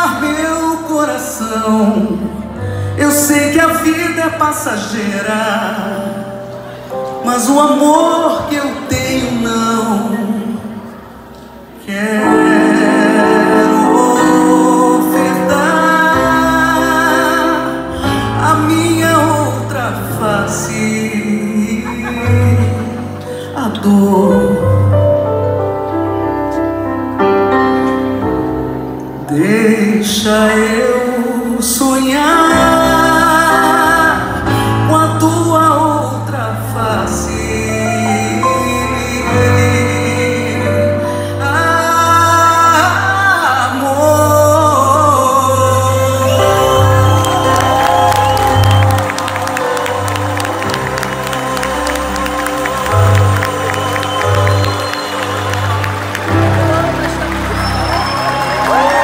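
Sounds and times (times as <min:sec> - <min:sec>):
wordless singing with vibrato: 0:00.0 - 0:25.9, 0:29.2 - 0:59.0
live pop ballad band: 0:00.0 - 0:59.0.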